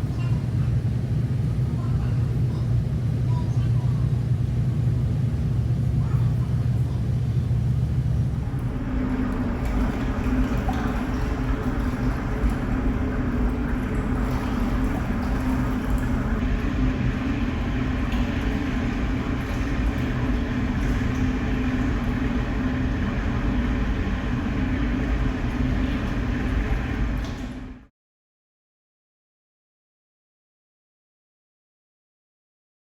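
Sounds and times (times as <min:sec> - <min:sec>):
ship engines droning: 0:00.0 - 0:27.9.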